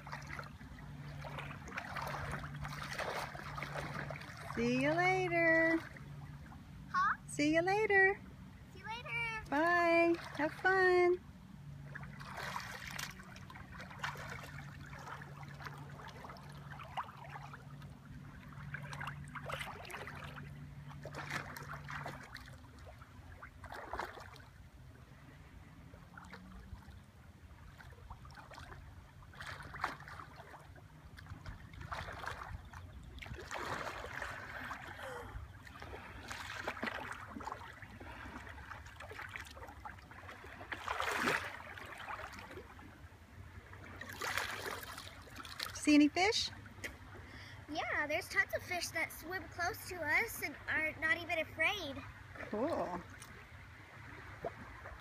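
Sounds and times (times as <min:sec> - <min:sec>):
water splashing and lapping: 0:00.0 - 0:55.0.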